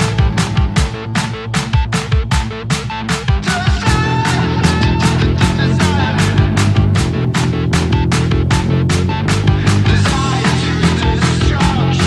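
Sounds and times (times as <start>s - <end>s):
rock music with guitar and drums: 0.0s - 12.0s.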